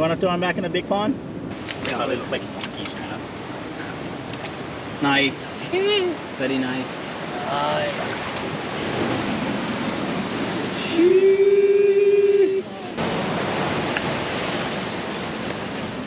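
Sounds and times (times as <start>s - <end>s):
ocean surf breaking over reef: 0.8s - 16.0s.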